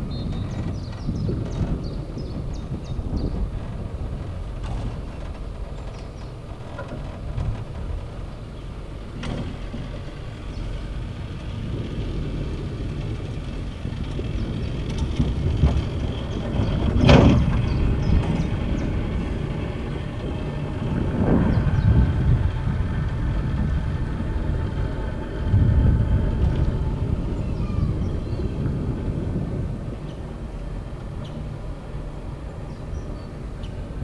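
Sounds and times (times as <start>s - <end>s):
cable car rumbling: 0.0s - 34.0s.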